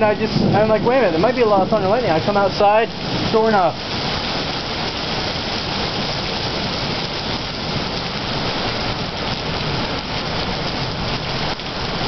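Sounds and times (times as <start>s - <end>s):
rain pouring on pavement: 0.0s - 12.0s.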